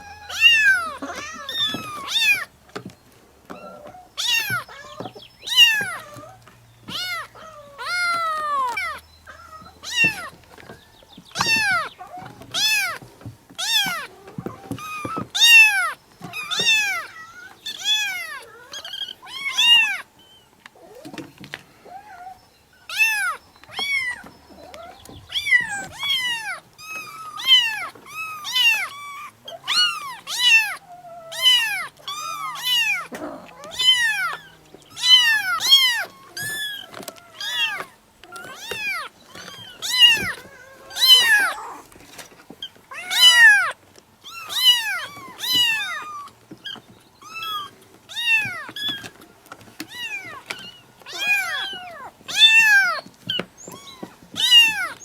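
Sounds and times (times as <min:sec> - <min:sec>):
kittens meowing: 0:00.0 - 0:21.2, 0:21.8 - 0:55.0.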